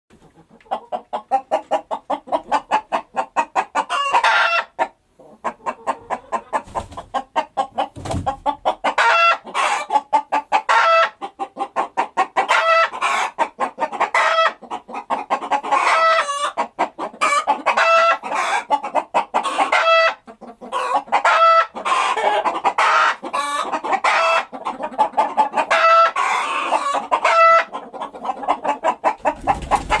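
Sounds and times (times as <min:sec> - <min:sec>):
chickens clucking: 0:00.1 - 0:30.0
chicken drawn-out pitched call: 0:00.7 - 0:06.7, 0:08.4 - 0:11.2, 0:12.4 - 0:30.0.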